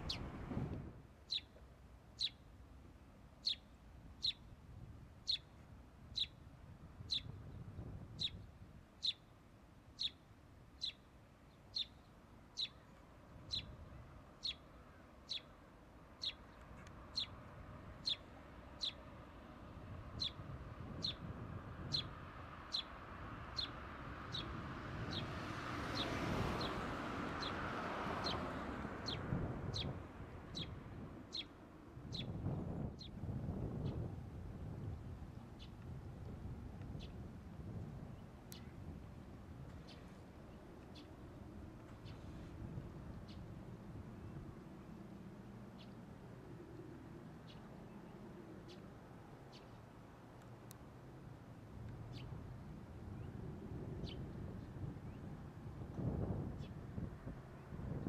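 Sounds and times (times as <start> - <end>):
low wind: 0.0 - 58.0.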